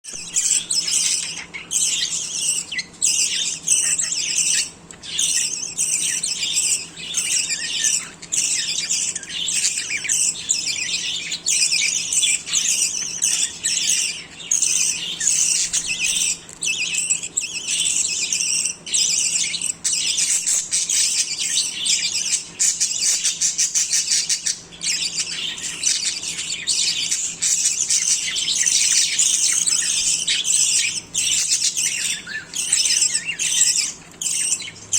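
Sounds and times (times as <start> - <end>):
budgerigars chattering and squawking: 0.1 - 34.9.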